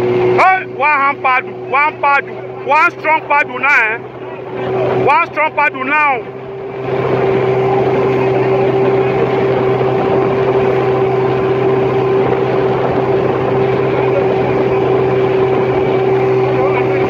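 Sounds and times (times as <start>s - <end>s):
motorboat engine running: 0.0s - 17.0s
water wash: 0.0s - 17.0s
wind: 0.0s - 17.0s.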